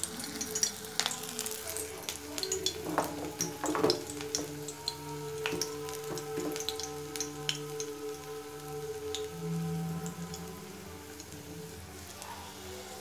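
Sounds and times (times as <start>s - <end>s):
batter crackling in hot oil: 0.0s - 13.0s.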